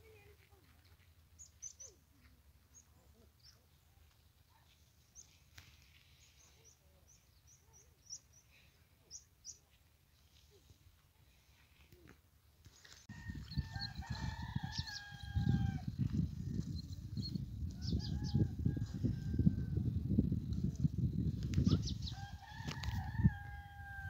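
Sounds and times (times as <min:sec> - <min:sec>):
small birds chirping: 0:00.5 - 0:18.8, 0:21.0 - 0:22.2.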